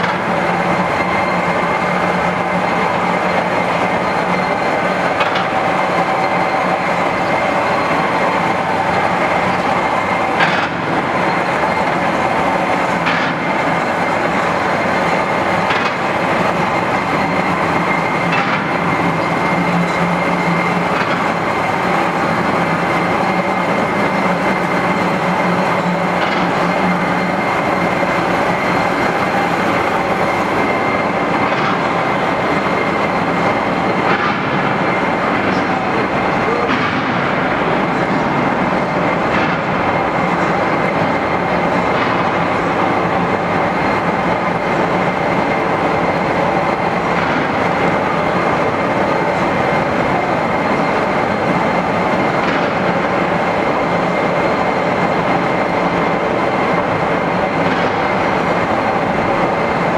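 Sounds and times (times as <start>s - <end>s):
mechanical drone with high whine: 0.0s - 59.9s.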